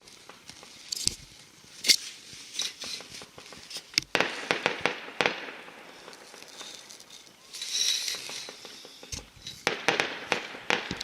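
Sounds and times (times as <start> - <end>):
fireworks banging and crackling: 0.0 - 1.0, 2.6 - 11.0.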